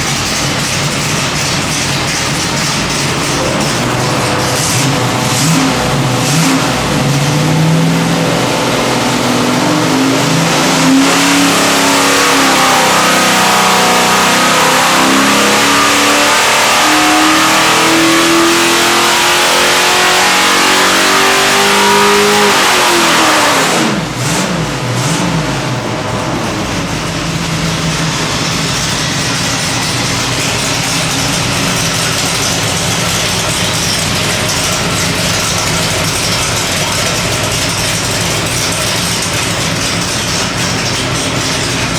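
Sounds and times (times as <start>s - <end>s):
engine revving at full throttle: 0.0s - 41.9s.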